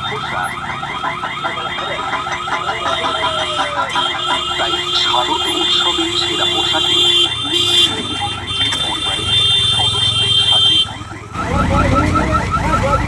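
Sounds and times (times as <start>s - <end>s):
electric alarm bell ringing: 0.0s - 11.3s
high-pitched steady tone: 0.0s - 13.0s.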